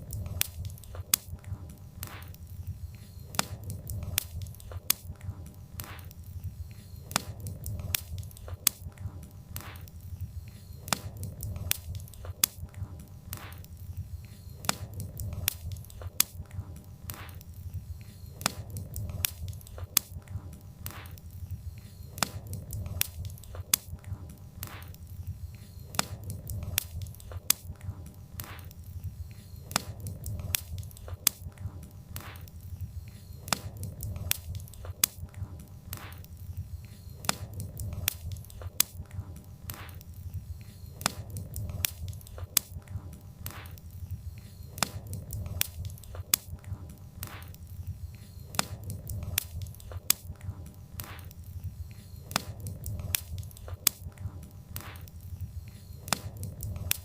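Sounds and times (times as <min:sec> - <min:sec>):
burning logs crackling and popping: 0:00.0 - 0:57.0
low rumble of flames: 0:00.0 - 0:57.0.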